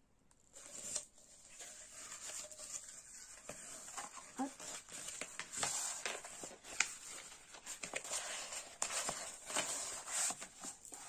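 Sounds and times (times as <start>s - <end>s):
canvas and plastic film crinkling: 0.5s - 11.0s.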